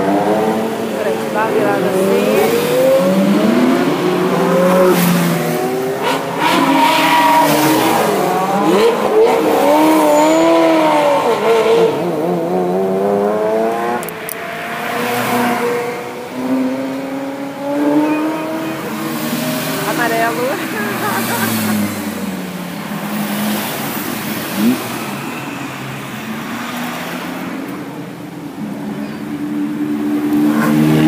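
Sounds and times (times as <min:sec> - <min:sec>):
sports car engines revving: 0:00.0 - 0:31.0.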